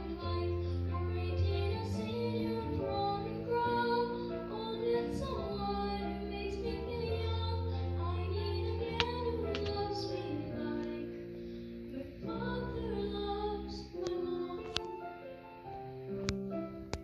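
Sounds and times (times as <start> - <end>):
girl singing into microphone: 0.0 - 11.2, 11.9 - 15.1
musical accompaniment: 0.0 - 17.0.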